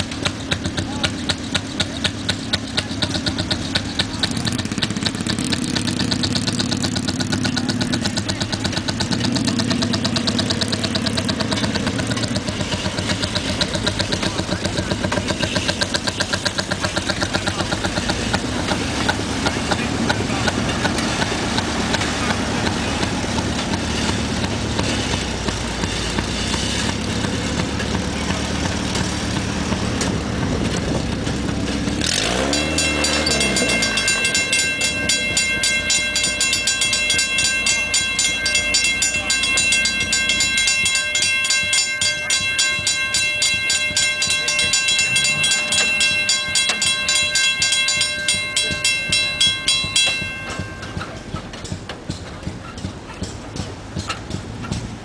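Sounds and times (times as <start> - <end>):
grade-crossing bell ringing: 0.0 - 54.4
small engine idling: 0.0 - 55.0.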